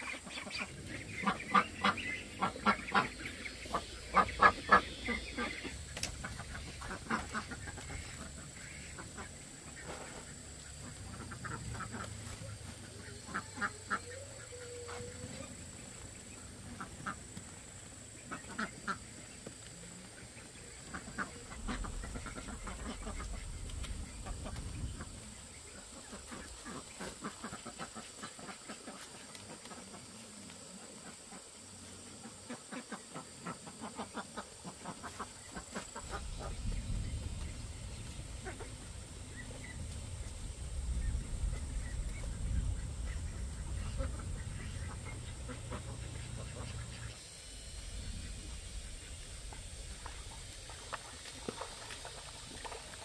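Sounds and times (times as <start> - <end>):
ducks quacking: 0.0 - 53.0.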